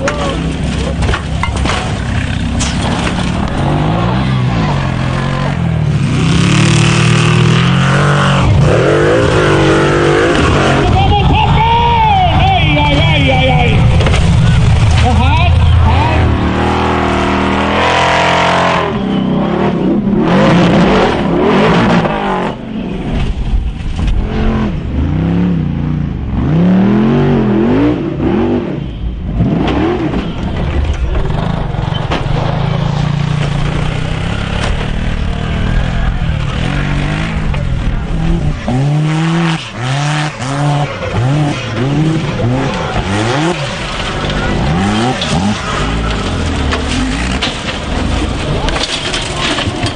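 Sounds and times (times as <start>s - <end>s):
off-road engines revving: 0.0s - 23.2s, 24.0s - 49.9s.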